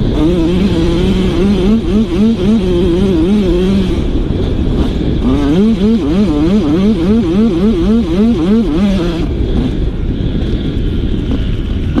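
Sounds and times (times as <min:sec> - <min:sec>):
motorbike engine revving: 0:00.0 - 0:12.0
wind rush on microphone: 0:00.0 - 0:12.0.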